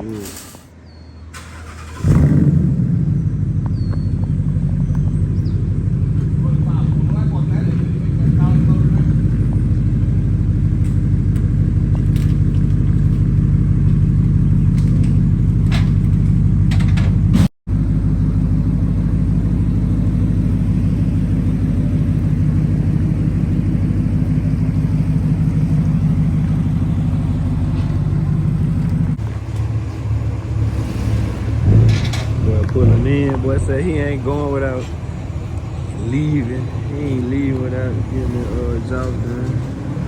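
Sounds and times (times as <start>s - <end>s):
car engine idling: 1.4s - 40.0s.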